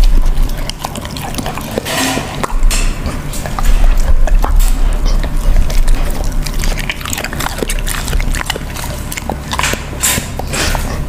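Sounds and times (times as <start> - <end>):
dog chewing and licking: 0.0 - 11.0
teeth clicking: 0.0 - 11.0.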